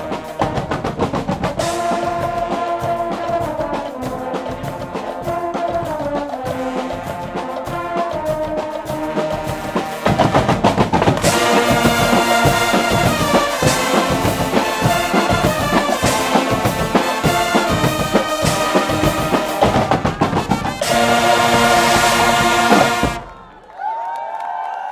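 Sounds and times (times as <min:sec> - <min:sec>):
brass band with drums: 0:00.0 - 0:23.6.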